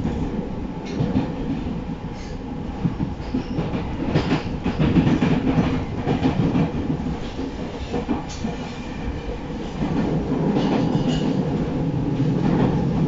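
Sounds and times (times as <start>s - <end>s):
train wheels rumbling on rails: 0.0s - 13.0s
rail-joint clacks: 0.8s - 1.6s, 2.2s - 8.8s, 9.6s - 13.0s.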